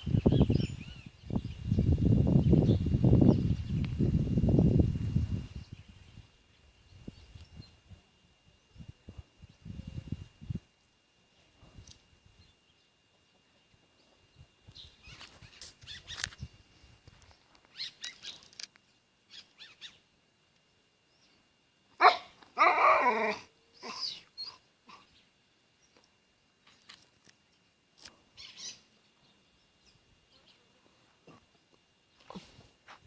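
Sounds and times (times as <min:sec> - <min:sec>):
small faint sounds: 0:05.0 - 0:33.0.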